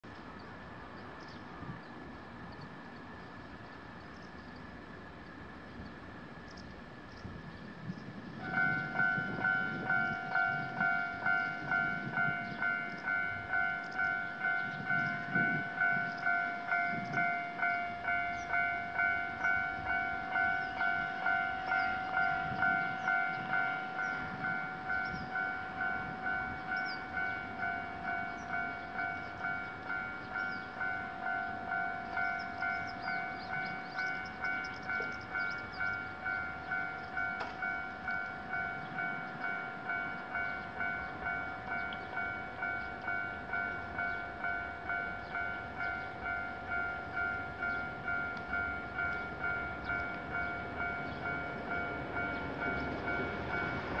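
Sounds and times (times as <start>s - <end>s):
railroad crossing warning bell: 0.0s - 54.0s.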